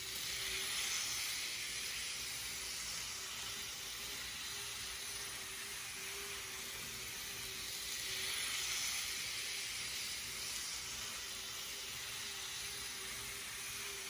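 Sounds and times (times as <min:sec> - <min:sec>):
model train motor humming: 0:00.0 - 0:14.0
wheels hissing on rails: 0:00.0 - 0:14.0.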